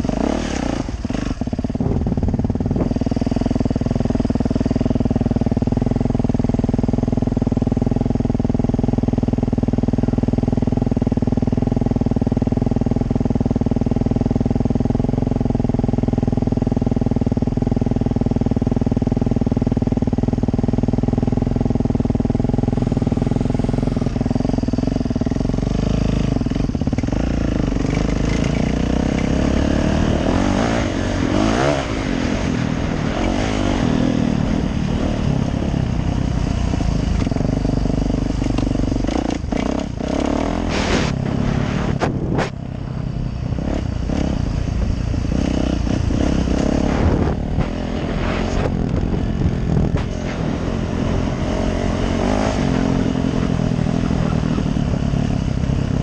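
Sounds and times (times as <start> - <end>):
dirt bike engine idling and revving: 0.0 - 56.0.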